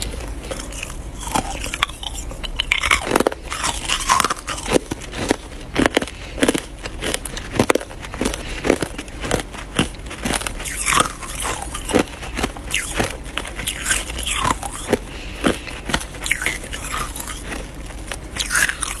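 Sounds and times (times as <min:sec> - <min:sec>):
ice being chewed: 0:00.0 - 0:19.0.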